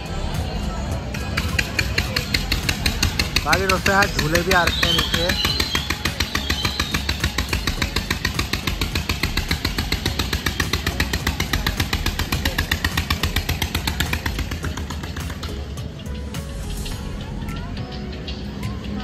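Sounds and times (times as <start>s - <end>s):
engine chugging: 0.0s - 19.0s.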